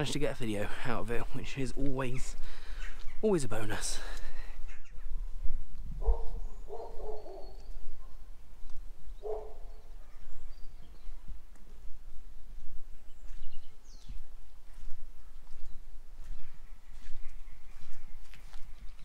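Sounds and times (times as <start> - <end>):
bird calls: 2.0 - 12.0, 12.6 - 19.0.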